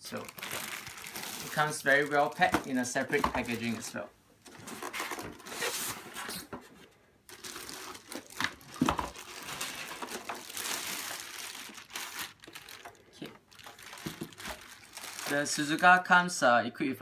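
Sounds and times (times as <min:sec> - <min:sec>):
packaging crinkling and rustling: 0:00.0 - 0:16.1.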